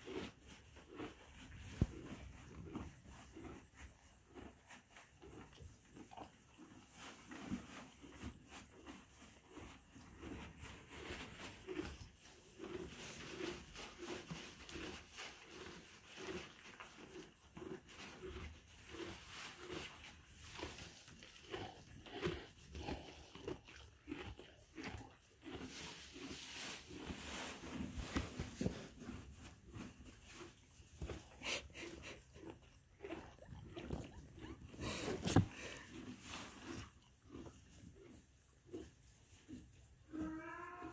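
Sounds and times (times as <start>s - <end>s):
donkey munching hay: 0.0s - 40.0s.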